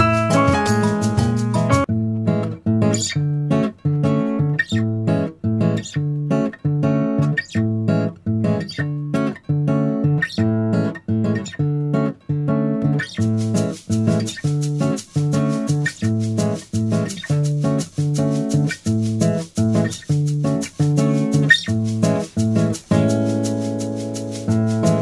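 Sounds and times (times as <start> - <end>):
acoustic guitar strumming chords: 0.0 - 5.3, 9.5 - 25.0.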